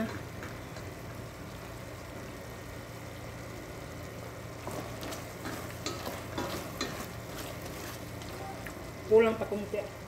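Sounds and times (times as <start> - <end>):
meat sizzling in pot: 0.0 - 10.0
steady low hum: 0.0 - 10.0.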